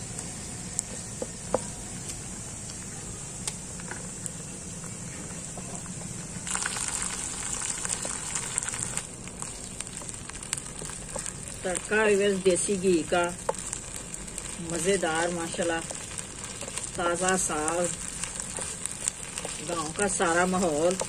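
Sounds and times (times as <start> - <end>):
greens sizzling in hot fat: 0.0 - 21.0.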